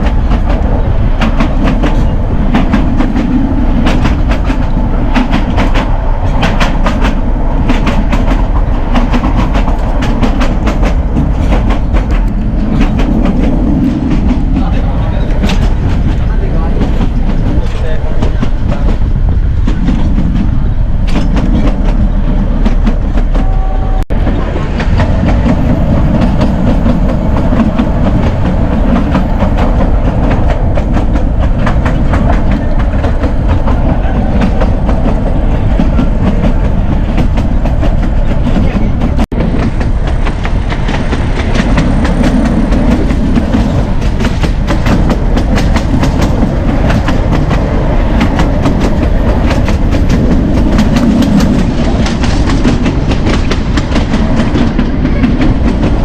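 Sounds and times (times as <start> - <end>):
train rumbling and rattling: 0.0 - 56.0
wheels clacking over rail joints: 0.0 - 56.0.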